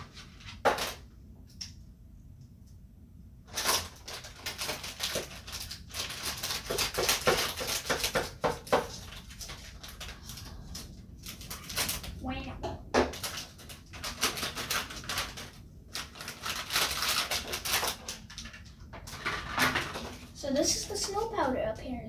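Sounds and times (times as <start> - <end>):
plastic packaging crinkling: 3.5 - 21.4.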